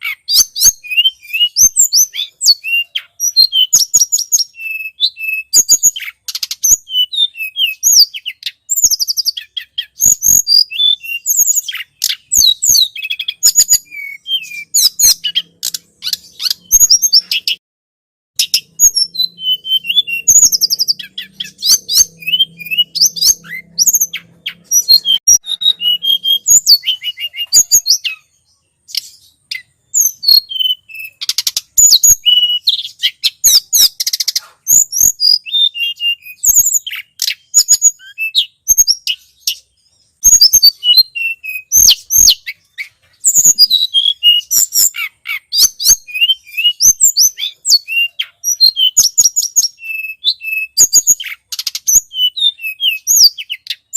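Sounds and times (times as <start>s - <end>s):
songbird high chirps: 0.0s - 17.6s, 18.4s - 53.9s.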